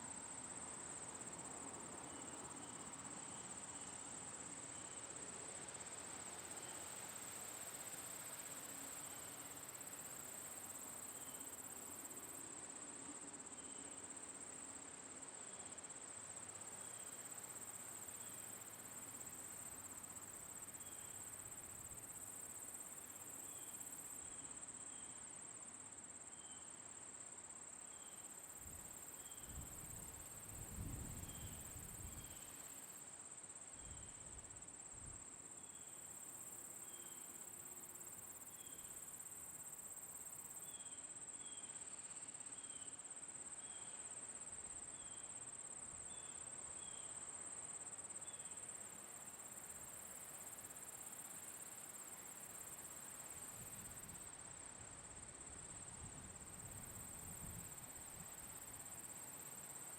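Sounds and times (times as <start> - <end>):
cricket chirps: 0.0 - 59.9
crickets trilling: 1.4 - 59.9.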